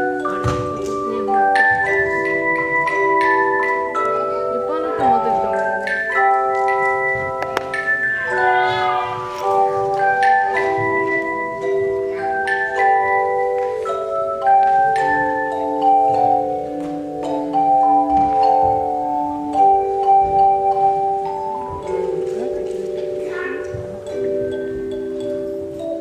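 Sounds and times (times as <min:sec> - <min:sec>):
tone chimes playing melody: 0:00.0 - 0:26.0.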